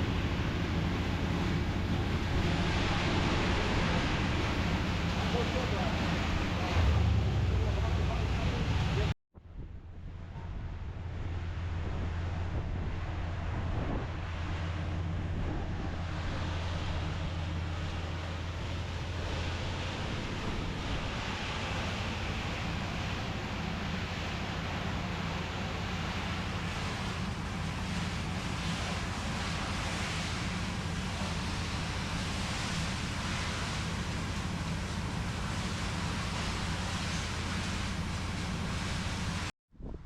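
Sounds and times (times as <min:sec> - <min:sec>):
vehicle engine idling: 0:00.0 - 0:09.1, 0:14.2 - 0:39.5.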